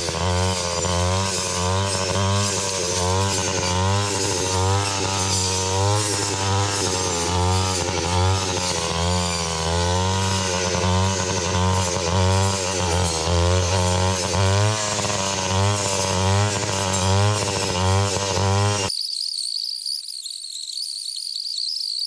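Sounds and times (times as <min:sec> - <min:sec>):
two-stroke engine revving: 0:00.0 - 0:18.9.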